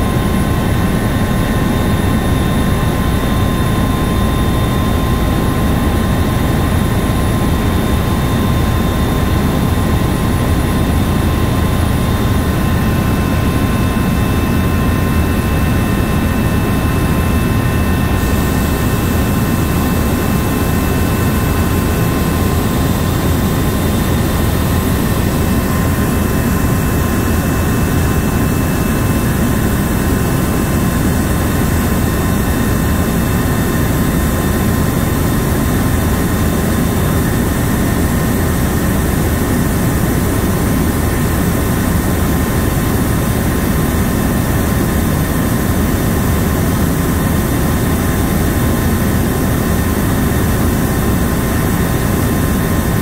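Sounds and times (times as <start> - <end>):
helicopter rotor and engine rumble: 0.0 - 53.0.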